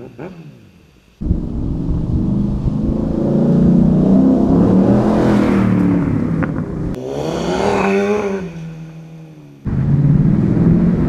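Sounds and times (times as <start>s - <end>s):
car engine accelerating past: 1.2s - 11.0s.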